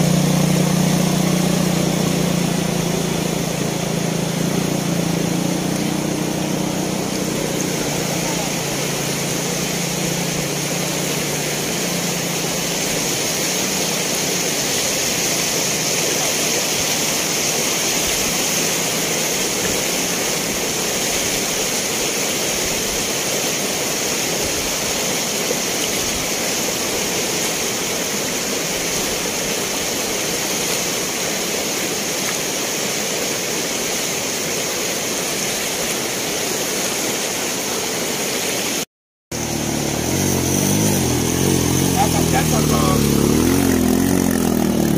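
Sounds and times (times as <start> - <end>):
floodwater rushing: 0.0 - 44.9.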